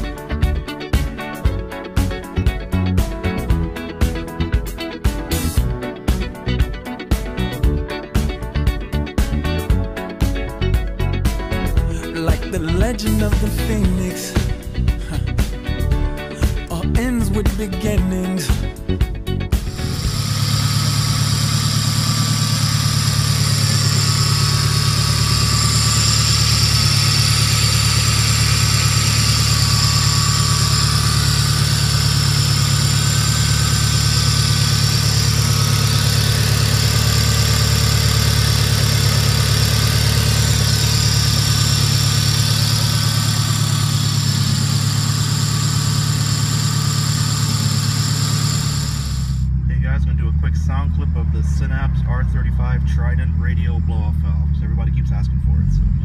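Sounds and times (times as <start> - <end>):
car engine idling: 0.0 - 17.0, 18.0 - 56.0.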